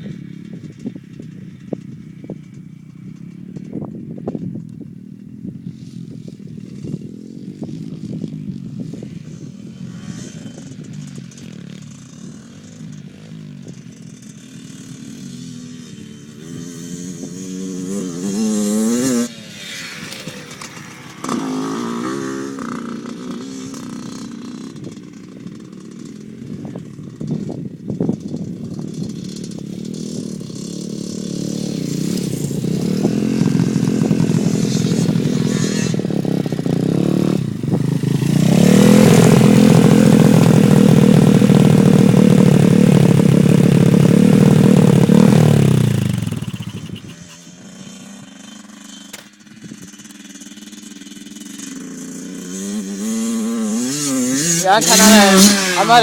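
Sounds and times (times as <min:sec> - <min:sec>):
dirt bike engine revving: 0:05.2 - 0:56.0.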